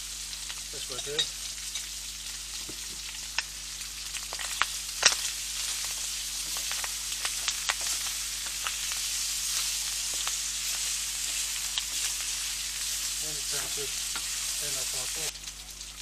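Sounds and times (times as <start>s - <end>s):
onion frying sizzle: 0.0s - 16.0s.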